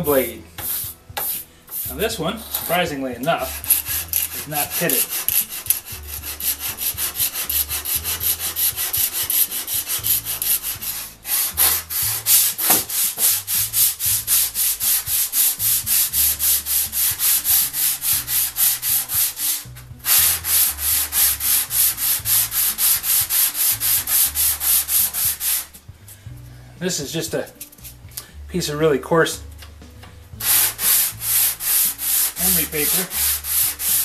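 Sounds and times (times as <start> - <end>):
sandpaper scrubbing on saw blade: 0.6 - 25.8, 30.4 - 34.0.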